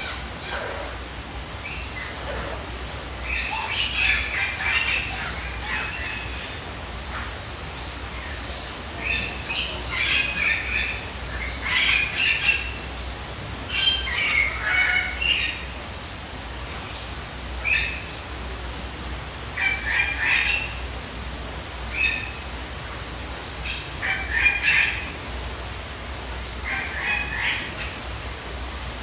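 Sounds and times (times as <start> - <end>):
birds calling: 0.0 - 29.0
steady low hum: 0.0 - 29.0.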